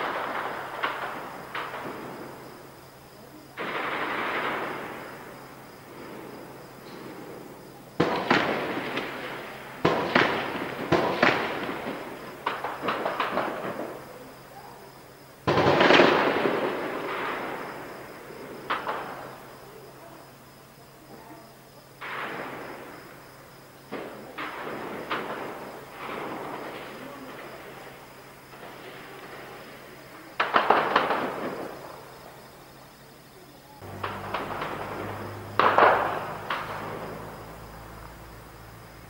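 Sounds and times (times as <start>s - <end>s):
shelling blasts with echoing rumble: 0.0s - 20.8s, 21.5s - 39.0s.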